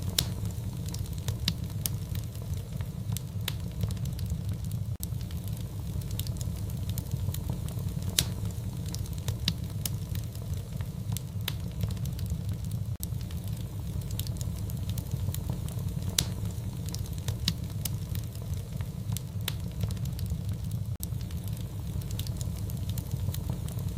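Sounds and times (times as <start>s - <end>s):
fire crackling and popping: 0.0s - 23.9s
low fire rumble: 0.0s - 23.9s.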